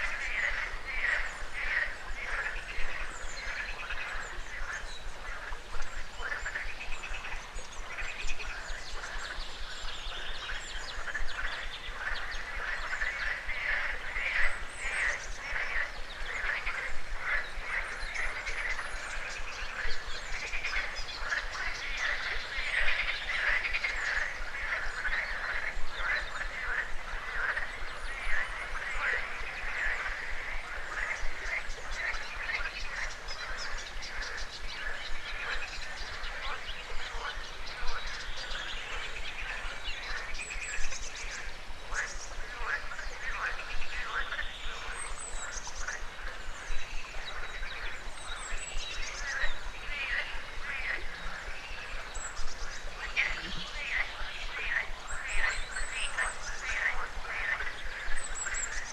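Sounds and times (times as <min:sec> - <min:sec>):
frogs croaking: 0:00.0 - 0:58.9.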